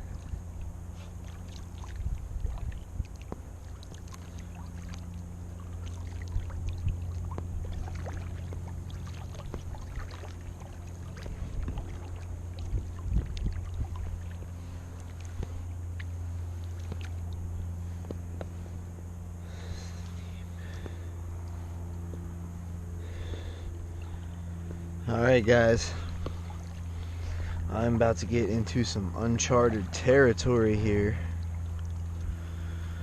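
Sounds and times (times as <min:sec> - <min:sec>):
water sounds: 0:00.0 - 0:18.8, 0:23.0 - 0:33.0
steady low hum: 0:00.0 - 0:33.0.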